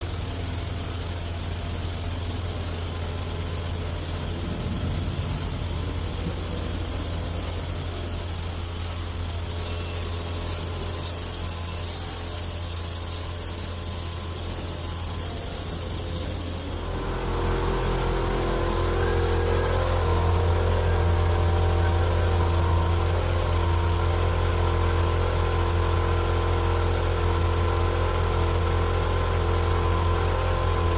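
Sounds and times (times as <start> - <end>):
constant rushing noise: 0.0 - 30.9
low mechanical hum: 0.0 - 30.9.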